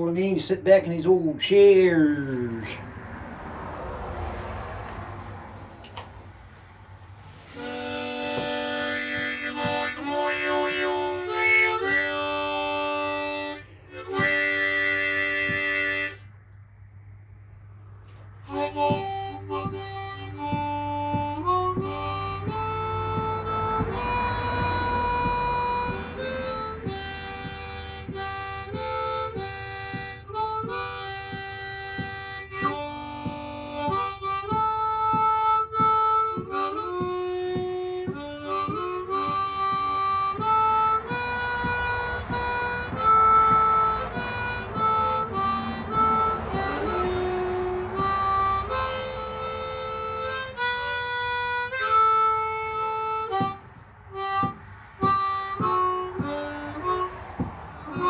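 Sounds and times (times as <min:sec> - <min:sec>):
harmonica playing slow tune: 0:05.2 - 0:58.0.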